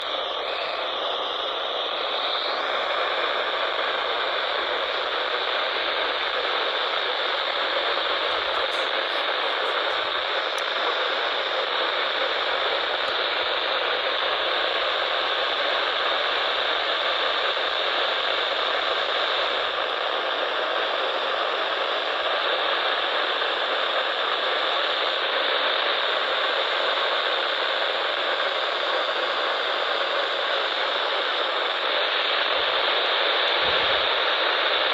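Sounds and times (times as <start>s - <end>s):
radio static hiss: 0.0s - 34.9s.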